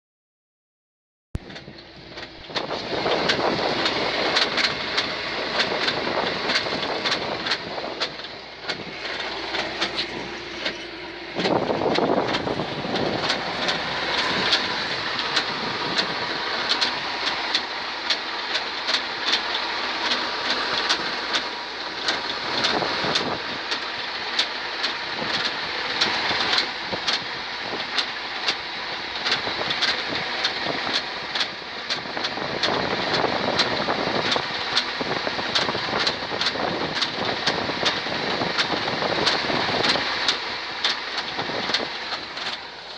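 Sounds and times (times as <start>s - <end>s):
engine and road noise: 1.4s - 42.9s.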